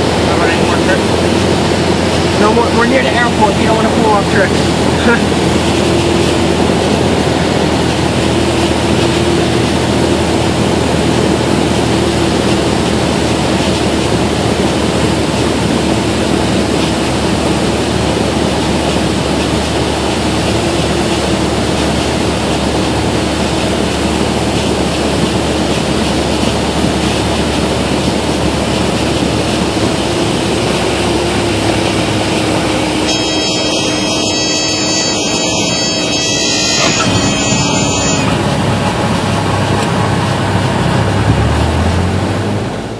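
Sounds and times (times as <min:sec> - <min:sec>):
propeller plane engine drone: 0:00.0 - 0:42.9.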